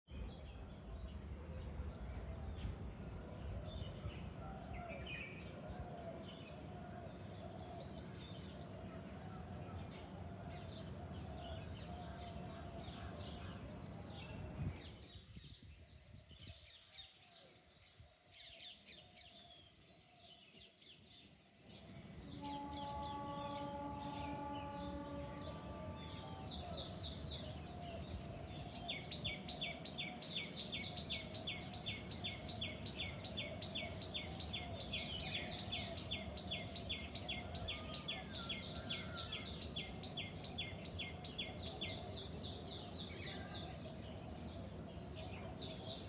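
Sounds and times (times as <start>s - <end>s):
birds chirping and trilling: 0.2s - 46.0s.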